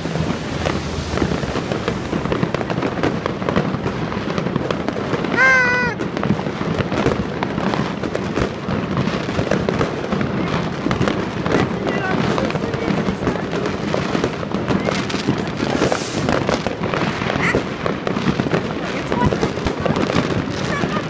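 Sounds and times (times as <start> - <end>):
fireworks crackling and banging: 0.0 - 21.0.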